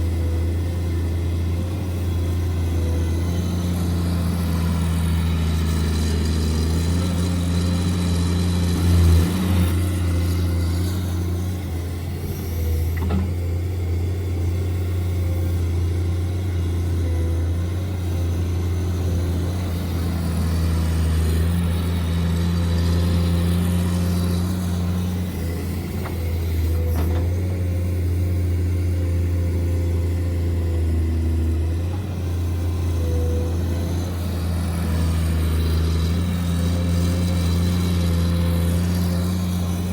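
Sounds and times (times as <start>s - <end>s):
model vehicle motor humming: 0.0s - 39.9s.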